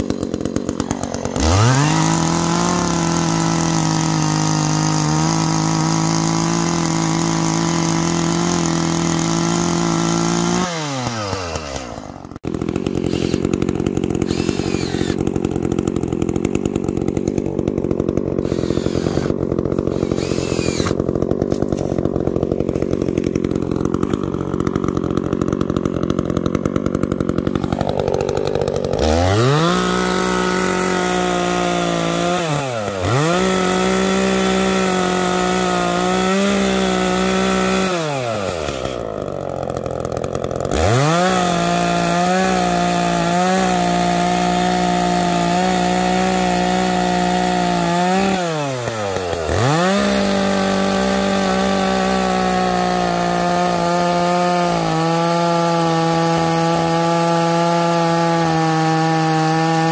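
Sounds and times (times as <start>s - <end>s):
chainsaw revving and cutting: 0.0s - 59.9s.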